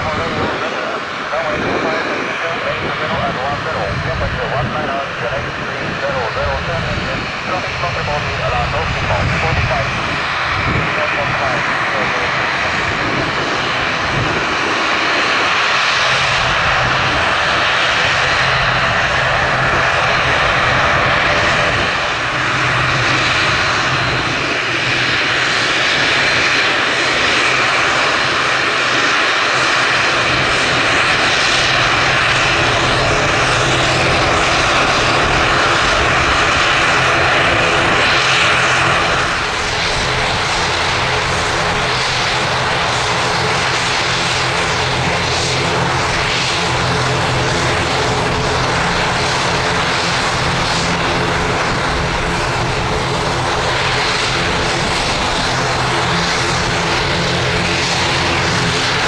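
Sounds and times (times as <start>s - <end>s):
jet engines droning: 0.0s - 59.0s.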